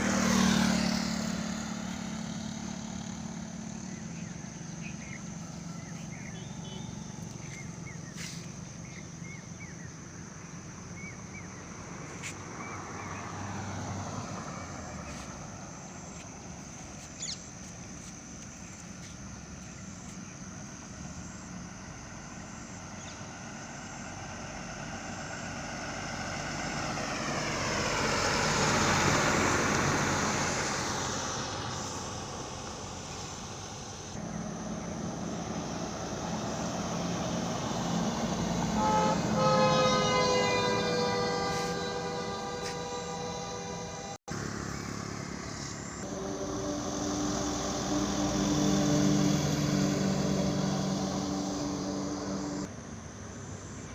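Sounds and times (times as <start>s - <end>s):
highway traffic noise: 0.0s - 53.9s
truck passing by: 0.0s - 53.9s.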